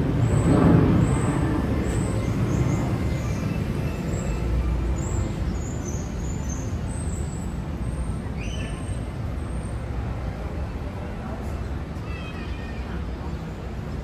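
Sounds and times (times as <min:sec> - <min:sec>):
passing vehicles rumble: 0:00.0 - 0:14.0.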